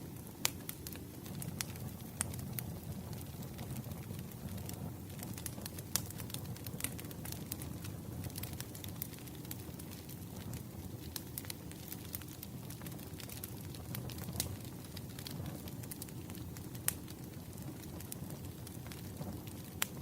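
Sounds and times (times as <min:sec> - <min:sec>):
low rumble of burning logs: 0:00.0 - 0:20.0
sharp pops from fire: 0:00.0 - 0:20.0
wood fire crackling: 0:00.0 - 0:20.0.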